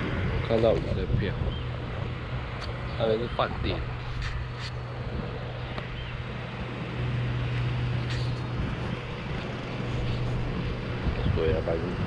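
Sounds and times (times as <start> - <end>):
low motor hum: 0.0 - 12.0
outdoor background noise: 0.0 - 12.0.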